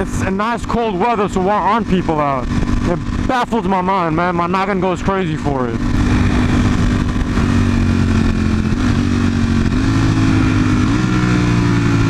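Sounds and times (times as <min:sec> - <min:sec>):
wind noise: 0:00.0 - 0:11.2
motorcycle engine running: 0:00.0 - 0:12.0.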